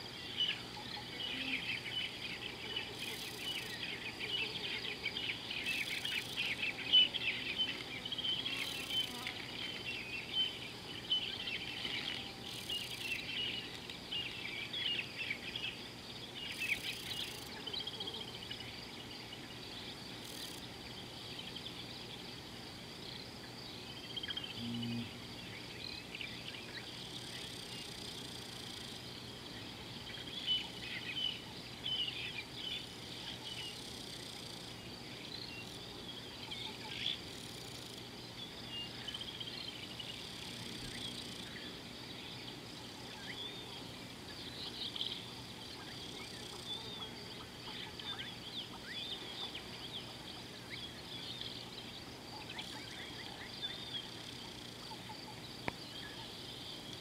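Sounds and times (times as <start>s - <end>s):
high insect trill: 0.0s - 57.0s.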